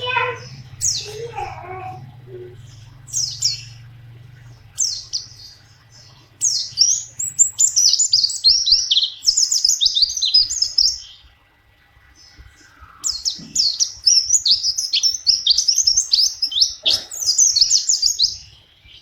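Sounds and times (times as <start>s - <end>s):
bird singing warble: 0.0s - 19.0s.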